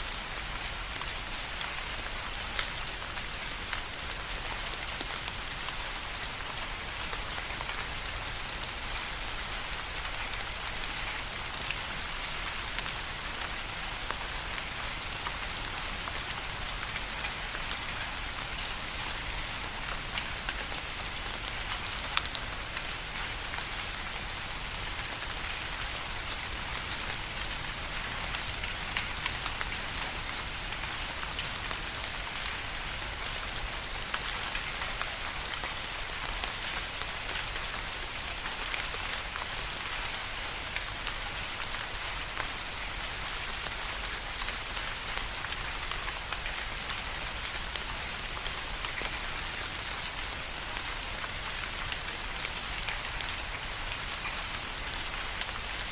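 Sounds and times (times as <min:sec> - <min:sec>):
steady rain falling: 0:00.0 - 0:55.9
raindrops ticking on a surface: 0:00.1 - 0:55.9.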